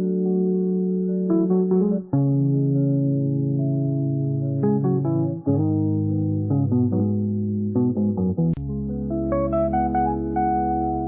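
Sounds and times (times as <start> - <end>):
plucked guitar and bass music: 1.9 - 11.0.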